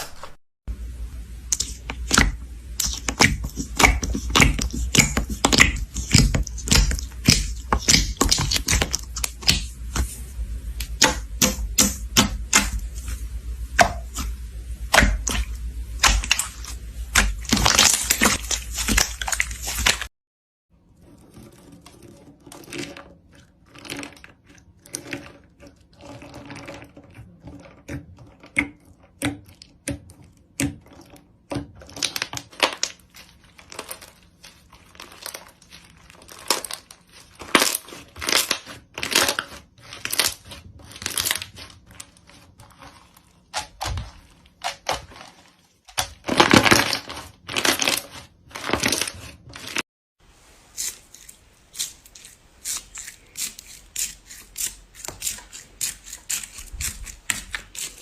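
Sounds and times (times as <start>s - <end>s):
slime squishing and crackling: 1.5s - 20.1s, 21.5s - 49.8s, 50.7s - 58.0s.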